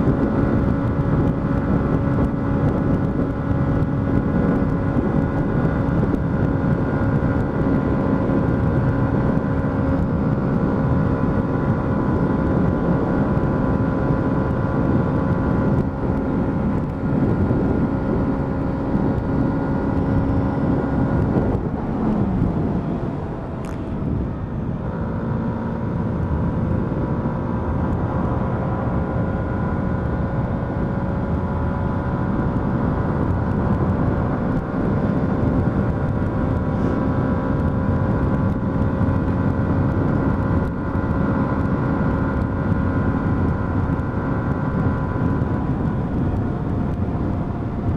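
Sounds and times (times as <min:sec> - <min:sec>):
motorcycle engine running: 0:00.0 - 0:47.9
wind and road noise: 0:00.0 - 0:47.9.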